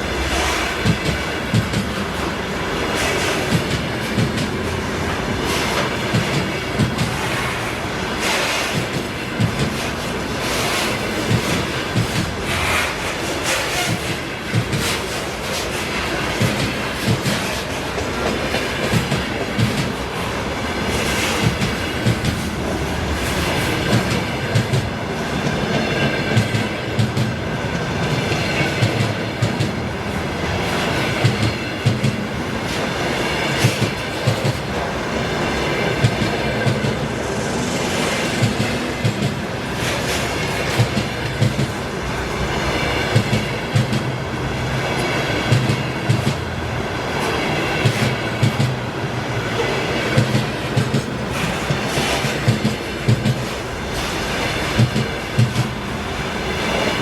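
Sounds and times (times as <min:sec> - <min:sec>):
train wheels clattering over rail joints: 0:00.2 - 0:37.1, 0:37.8 - 0:57.0.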